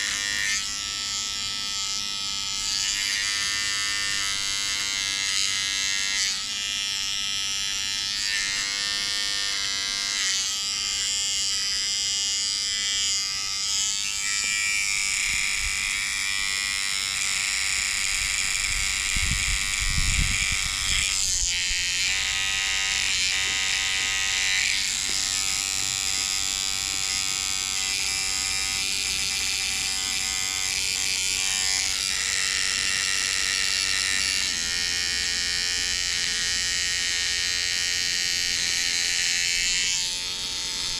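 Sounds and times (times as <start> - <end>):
electric shaver buzzing: 0.0 - 40.9.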